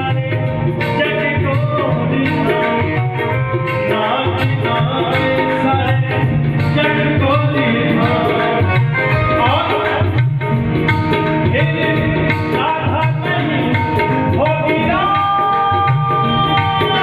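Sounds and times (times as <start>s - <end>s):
driving drum beat: 0.0s - 17.0s.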